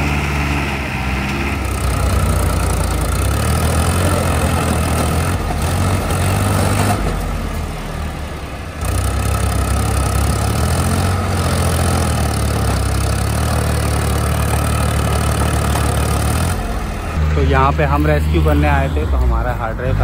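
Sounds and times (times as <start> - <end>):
tractor engine straining: 0.0 - 20.0.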